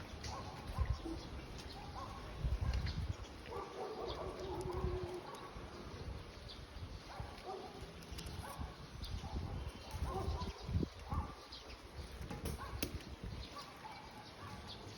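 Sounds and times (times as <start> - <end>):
birds calling: 0.0 - 14.9.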